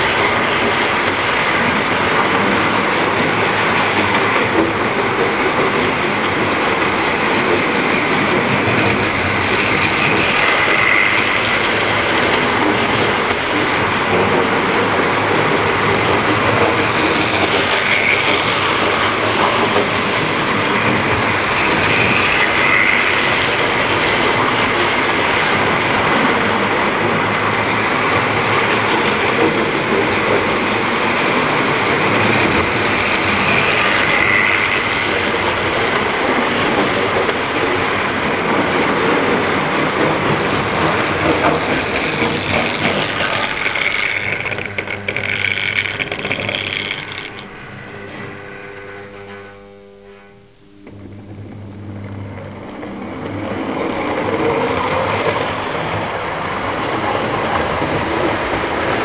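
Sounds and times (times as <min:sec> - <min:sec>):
model train running on rails: 0:00.0 - 0:59.0.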